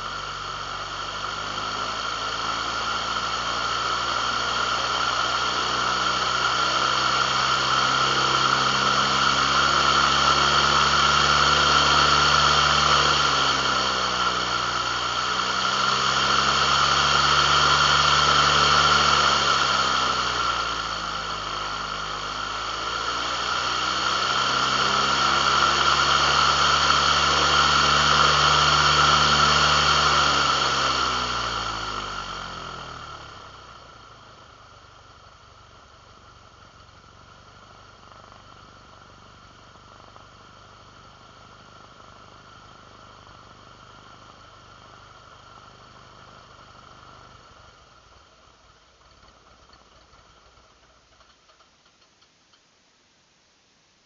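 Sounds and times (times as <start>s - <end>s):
motor running: 0.0s - 44.4s.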